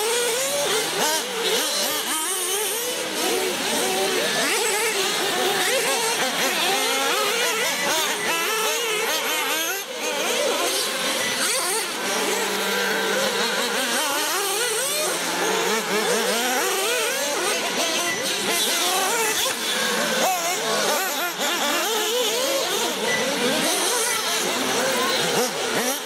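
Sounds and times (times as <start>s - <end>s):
small motors whining and revving: 0.0s - 26.0s.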